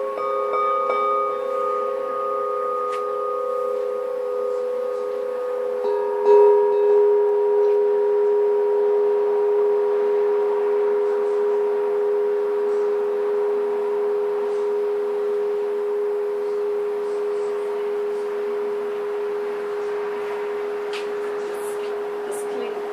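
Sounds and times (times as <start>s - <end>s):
metal bell ringing: 0.0s - 22.9s.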